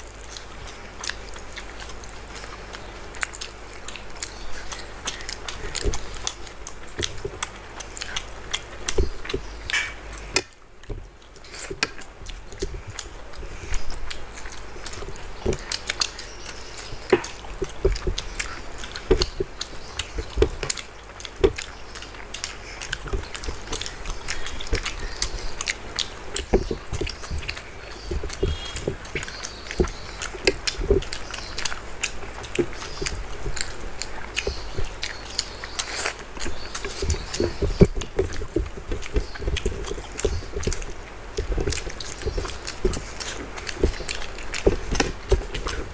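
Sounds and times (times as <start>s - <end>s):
close chewing and mouth sounds: 0.0s - 45.9s
small wet clicks: 0.0s - 45.9s.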